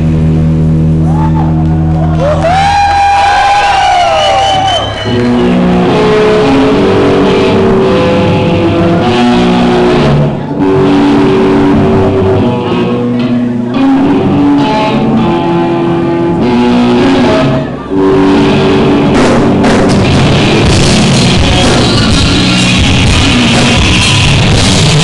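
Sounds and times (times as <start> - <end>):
heavy metal band playing: 0.0 - 25.0
lead guitar sustained notes: 0.0 - 25.0.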